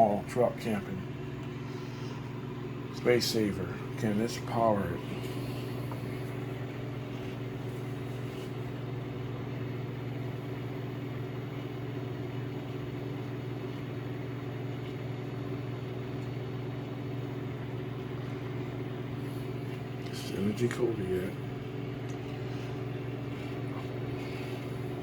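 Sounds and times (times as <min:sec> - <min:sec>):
fan noise: 0:00.0 - 0:25.0
microwave electrical hum: 0:00.0 - 0:25.0.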